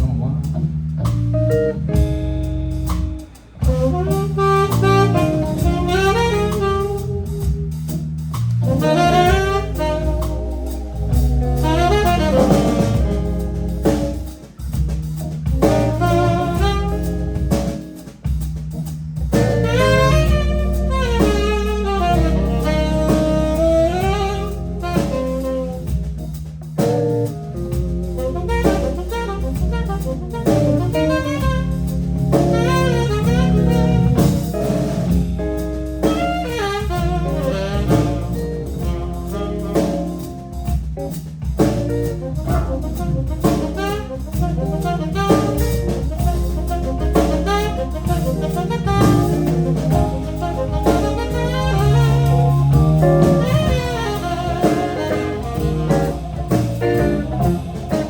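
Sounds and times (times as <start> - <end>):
jazz blues band playing: 0.0 - 58.0
saxophone melody: 1.3 - 14.6, 15.5 - 18.0, 19.3 - 58.0.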